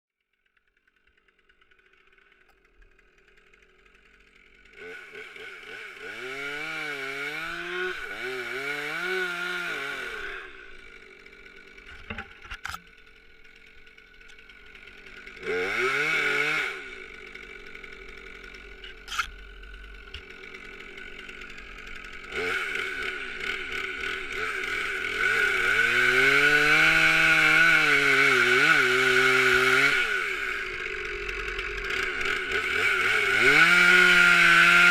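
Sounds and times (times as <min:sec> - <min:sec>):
chainsaw revving: 0:00.4 - 0:34.9.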